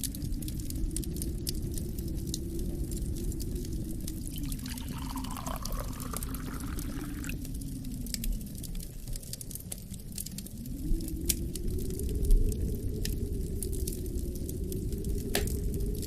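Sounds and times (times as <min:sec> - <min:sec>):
low rumble of wind: 0:00.0 - 0:16.0
wood fire crackling: 0:00.0 - 0:16.0.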